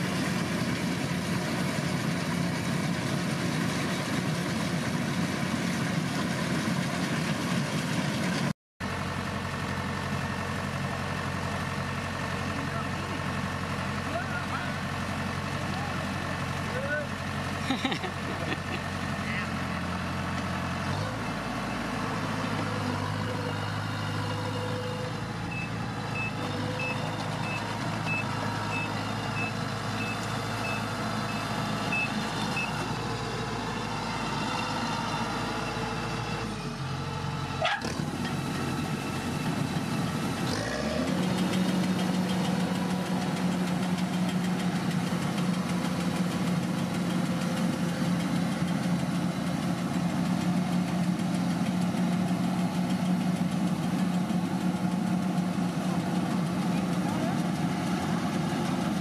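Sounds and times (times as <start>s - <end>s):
combine harvester engine humming: 0.0s - 59.0s.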